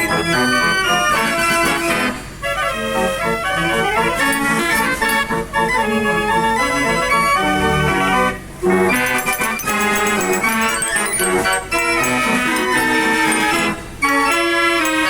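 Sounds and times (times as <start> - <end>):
organ-like keyboard chords: 0.0 - 15.0.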